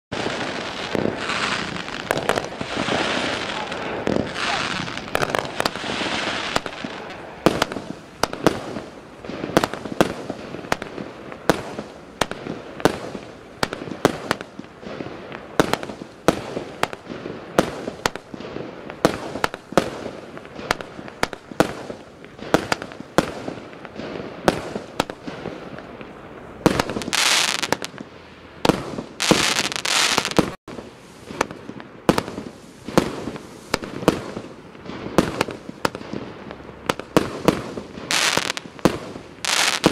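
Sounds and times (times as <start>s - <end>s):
fireworks hissing and crackling: 0.1s - 39.9s
fireworks launch thumps and bursts: 0.2s - 25.9s, 28.6s - 39.9s.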